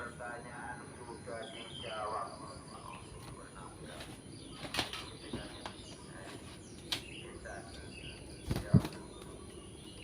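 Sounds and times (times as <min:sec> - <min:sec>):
bulbul chirping calls: 0:00.0 - 0:10.0.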